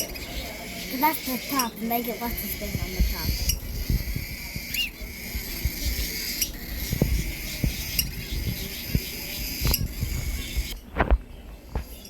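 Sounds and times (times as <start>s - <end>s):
chorus of high chirping: 0.0s - 12.0s
soft bumps: 2.2s - 12.0s.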